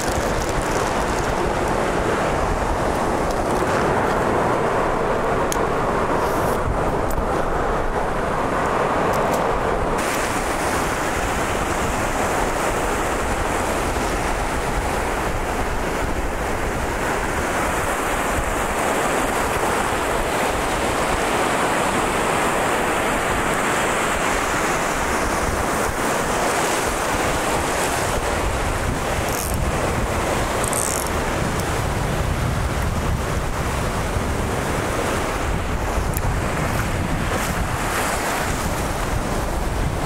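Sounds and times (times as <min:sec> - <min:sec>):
small surf waves breaking: 0:00.0 - 0:40.0
wind buffeting microphone: 0:00.0 - 0:40.0.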